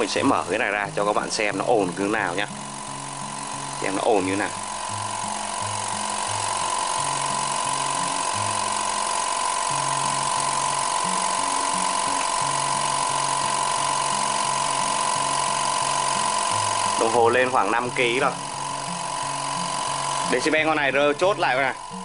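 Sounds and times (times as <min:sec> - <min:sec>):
air compressor running: 0:00.0 - 0:22.0
compressor whine: 0:00.0 - 0:22.0.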